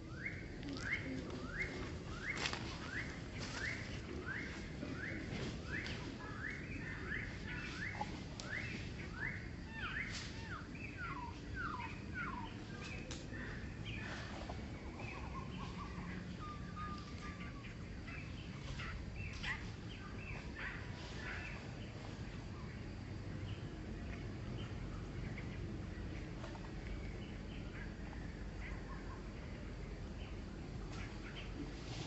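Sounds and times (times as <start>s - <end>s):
birds chirping: 0.0s - 32.0s
low background noise: 0.0s - 32.0s.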